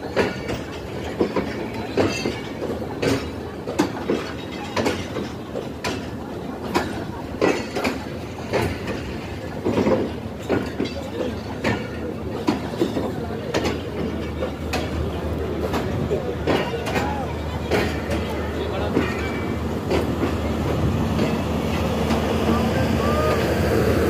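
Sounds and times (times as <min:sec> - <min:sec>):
train rolling rumble: 0:00.0 - 0:24.0
train wheels clacking on rails: 0:00.0 - 0:24.0.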